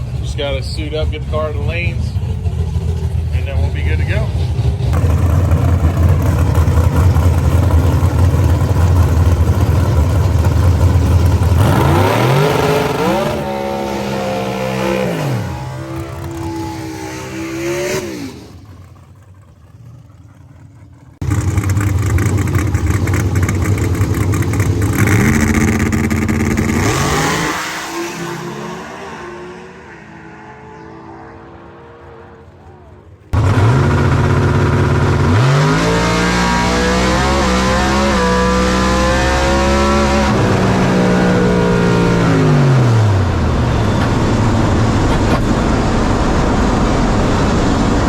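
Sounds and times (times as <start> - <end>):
race car engines at full throttle: 0.0 - 48.0.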